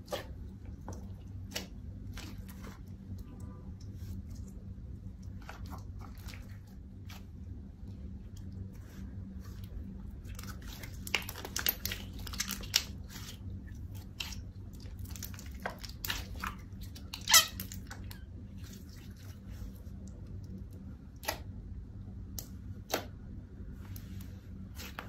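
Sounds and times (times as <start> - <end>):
slime squelching: 0.0 - 25.0.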